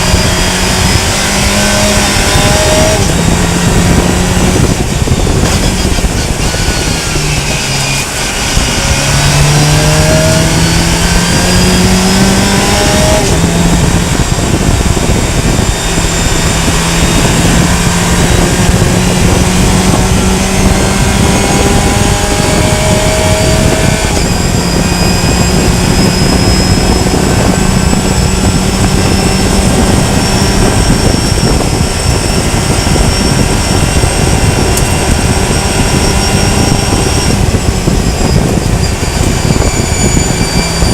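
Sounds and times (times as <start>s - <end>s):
race car engine revving: 0.0s - 40.9s
wind and road noise: 0.0s - 40.9s.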